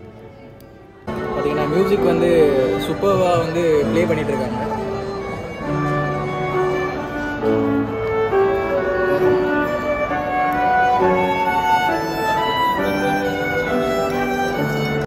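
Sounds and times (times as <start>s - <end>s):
grand piano: 0.0s - 15.0s
violins: 0.0s - 15.0s.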